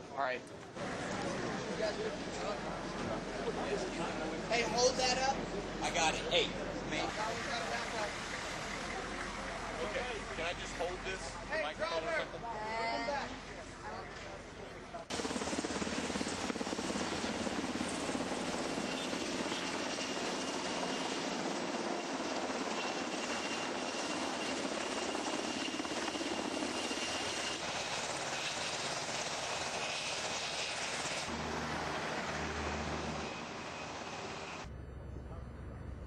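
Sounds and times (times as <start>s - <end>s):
helicopter flying low overhead: 0.5s - 36.0s.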